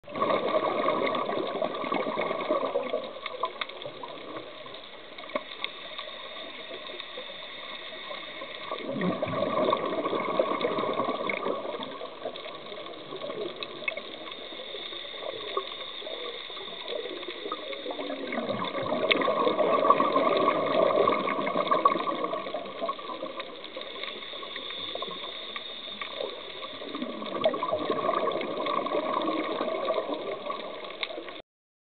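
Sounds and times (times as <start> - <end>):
diver's bubbles rushing underwater: 0.0 - 4.8, 8.4 - 31.4
steady underwater hiss: 0.1 - 31.4.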